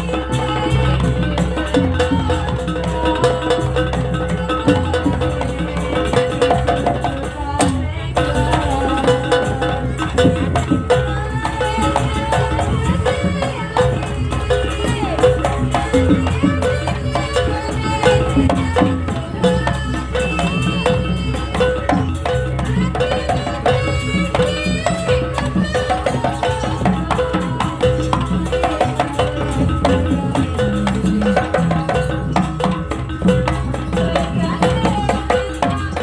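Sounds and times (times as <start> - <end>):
gamelan drumming: 0.0 - 36.0.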